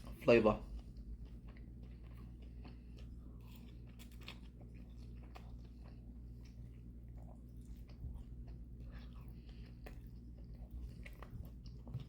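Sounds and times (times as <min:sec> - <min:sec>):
person chewing noodles: 0:00.0 - 0:12.0.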